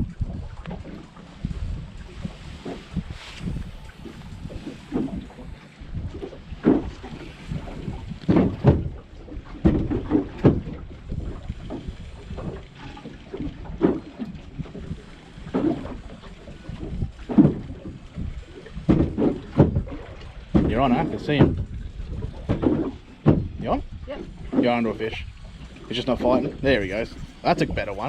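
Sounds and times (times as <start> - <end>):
water lapping against boat hull: 0.0 - 28.0
wind buffeting microphone: 0.0 - 28.0.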